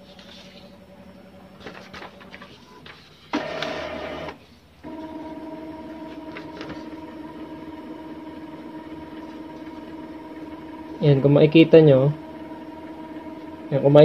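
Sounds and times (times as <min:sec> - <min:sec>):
printer mechanism whir: 0:00.0 - 0:14.0
printer motor hum with whine: 0:00.0 - 0:14.0.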